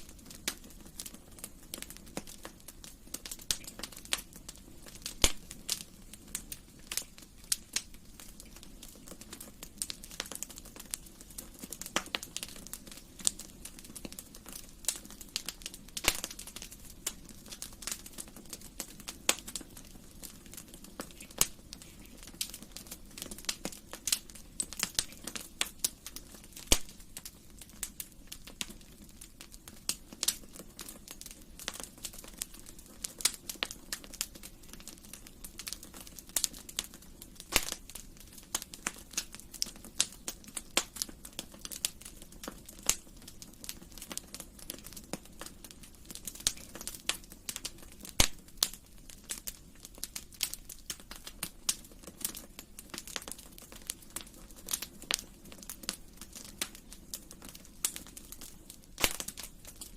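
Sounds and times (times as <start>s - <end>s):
low rumble of flames: 0.0s - 59.9s
wood fire popping and snapping: 0.0s - 59.9s.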